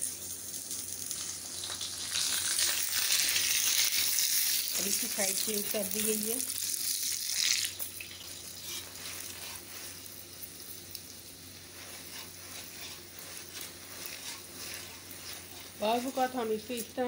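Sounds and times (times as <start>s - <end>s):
flatbread sizzling in oil: 0.0s - 17.0s.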